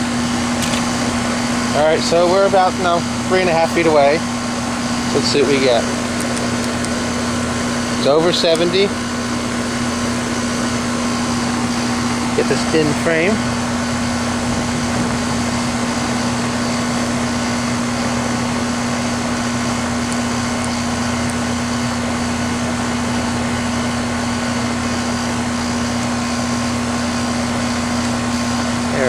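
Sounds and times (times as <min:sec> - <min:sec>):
fan noise rushing: 0:00.0 - 0:29.0
heat pump compressor humming: 0:00.0 - 0:29.0.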